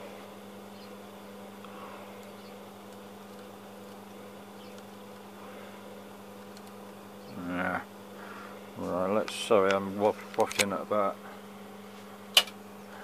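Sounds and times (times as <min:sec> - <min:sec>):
amplifier mains hum: 0:00.0 - 0:13.0.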